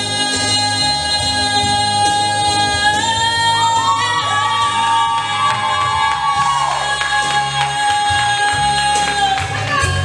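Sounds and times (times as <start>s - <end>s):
karaoke backing track: 0.0s - 10.0s.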